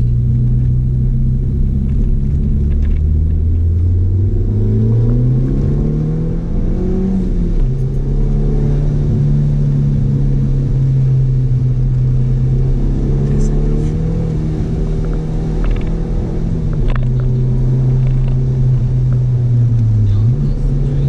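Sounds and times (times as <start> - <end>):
car engine revving under acceleration: 0.0 - 21.0.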